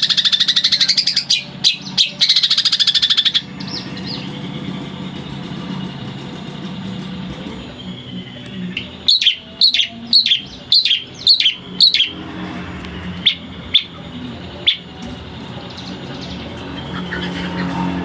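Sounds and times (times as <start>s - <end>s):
bird harsh calls: 0.0s - 18.0s
low hum: 0.0s - 18.0s.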